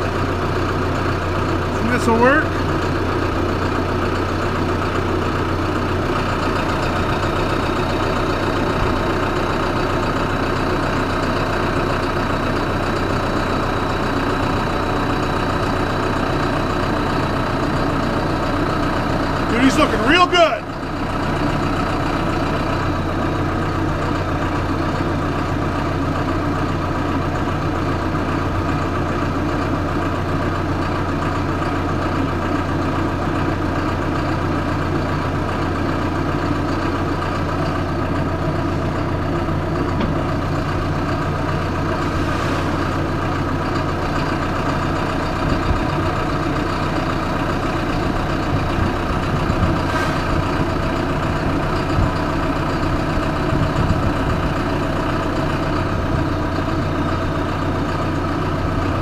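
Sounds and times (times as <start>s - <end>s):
heavy engine idling: 0.0s - 59.0s.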